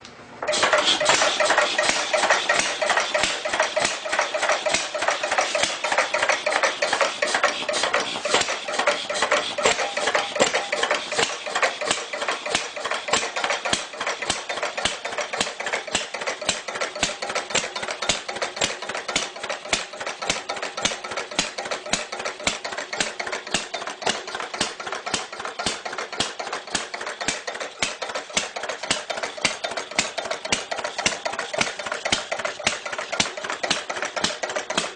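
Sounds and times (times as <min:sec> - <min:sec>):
old engine idling with knocking: 0:00.4 - 0:34.9.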